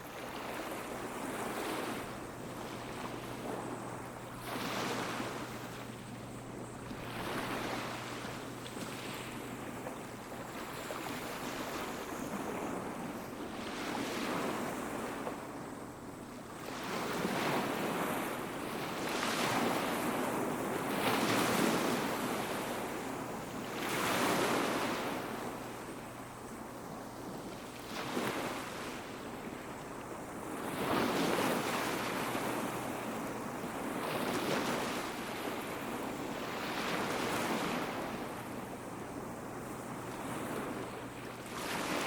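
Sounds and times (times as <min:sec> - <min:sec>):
sea waves washing onto beach: 0:00.0 - 0:15.6, 0:16.5 - 0:42.0.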